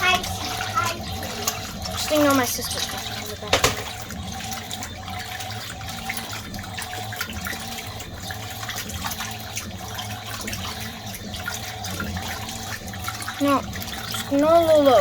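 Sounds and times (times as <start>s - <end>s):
water moving in washing machine: 0.0s - 15.0s.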